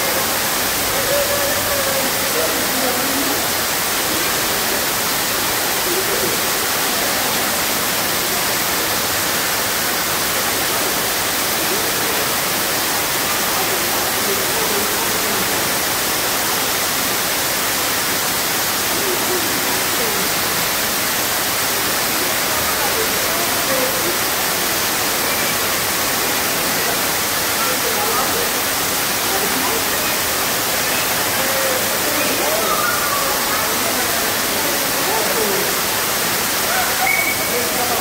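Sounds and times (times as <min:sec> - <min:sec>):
faint voices: 0:00.0 - 0:38.0
small waterfall splashing: 0:00.0 - 0:38.0.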